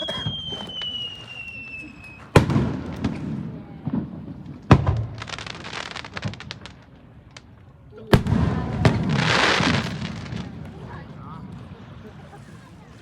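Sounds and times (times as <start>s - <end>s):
fireworks banging: 0.0s - 12.4s
fireworks crackling: 0.0s - 13.0s.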